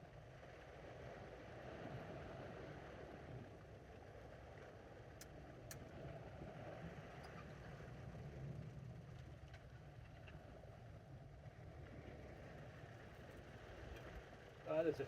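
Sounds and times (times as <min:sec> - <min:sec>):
faint low rumble of outdoor ambience: 0:00.0 - 0:15.0.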